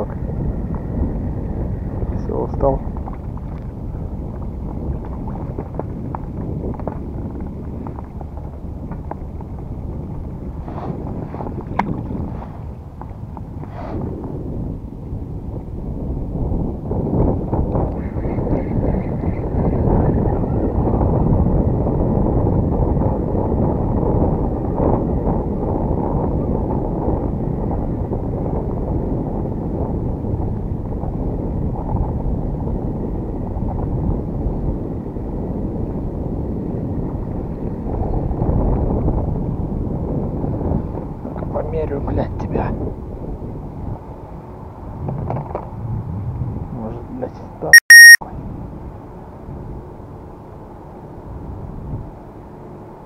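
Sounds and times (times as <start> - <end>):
strong wind buffeting microphone: 0.0 - 53.0.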